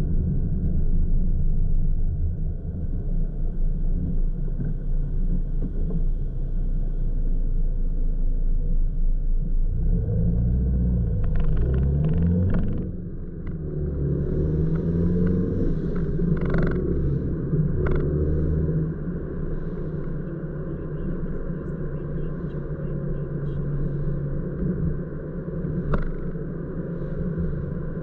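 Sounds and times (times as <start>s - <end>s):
car engine idling and accelerating: 0.0s - 28.0s.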